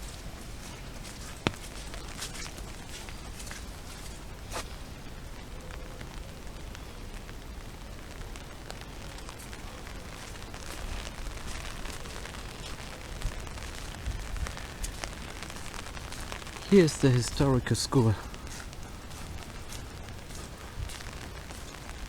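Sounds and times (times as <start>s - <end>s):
raindrops ticking on surfaces: 0.0s - 22.0s
steady rain falling: 0.0s - 22.0s.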